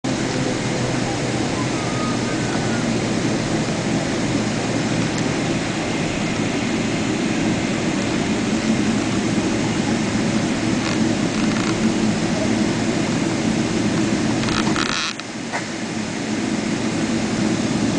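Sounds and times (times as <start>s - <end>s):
jet engine noise in cabin: 0.0s - 17.9s.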